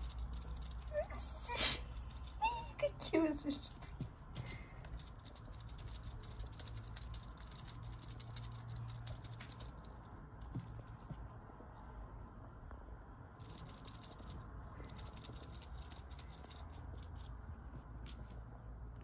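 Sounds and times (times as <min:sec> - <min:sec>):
kittens scratching and rustling: 0:00.0 - 0:11.4, 0:13.4 - 0:18.5.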